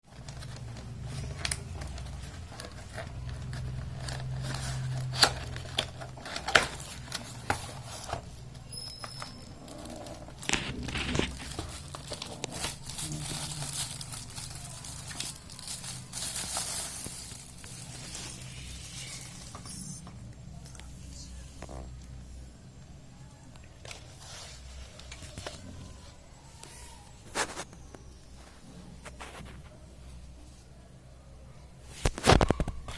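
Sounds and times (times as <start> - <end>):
plastic and cardboard crinkling: 0.1 - 20.8, 23.6 - 30.4, 31.9 - 32.9.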